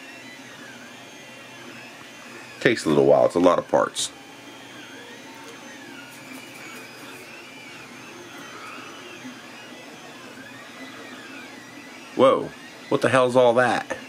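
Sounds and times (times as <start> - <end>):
steady background hum: 0.0 - 14.0
stepper motors whining: 0.0 - 14.0.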